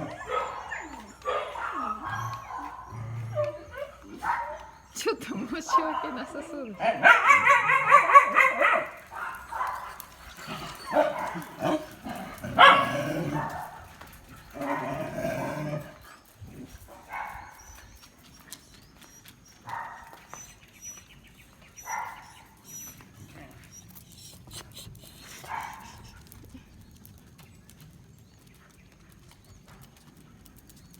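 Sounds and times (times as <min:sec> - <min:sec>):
dogs barking: 0:00.0 - 0:18.0, 0:19.4 - 0:26.3.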